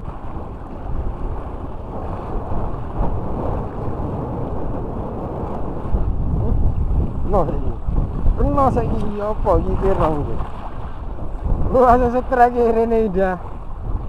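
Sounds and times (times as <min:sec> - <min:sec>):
small sea waves washing: 0:00.0 - 0:14.0
wind buffeting microphone: 0:00.0 - 0:14.0.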